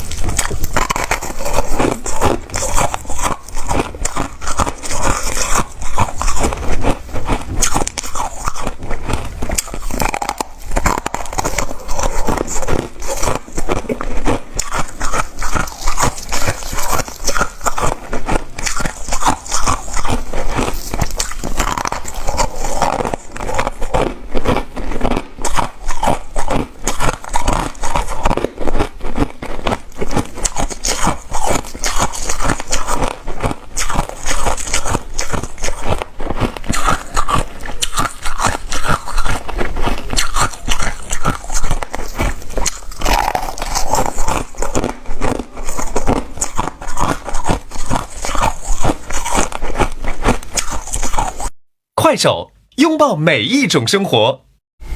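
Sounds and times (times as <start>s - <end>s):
ice being chewed: 0.0s - 51.5s.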